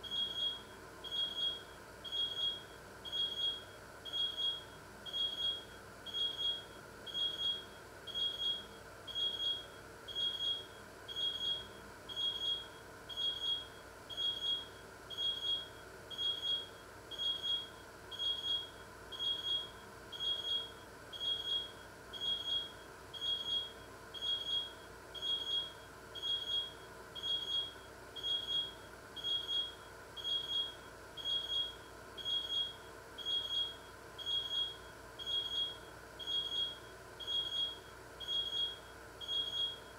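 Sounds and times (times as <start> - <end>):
electronic alarm beeping: 0.0 - 39.9.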